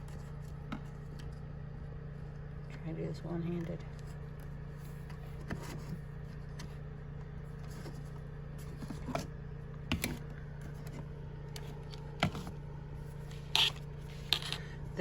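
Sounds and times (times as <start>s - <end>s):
generator engine hum: 0.0s - 15.0s.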